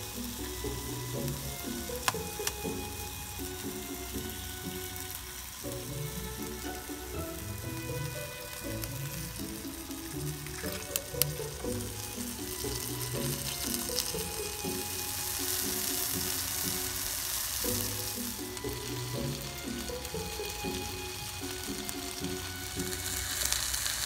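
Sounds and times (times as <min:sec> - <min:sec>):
background music: 0:00.0 - 0:24.0
food sizzling in a skillet: 0:00.0 - 0:24.0.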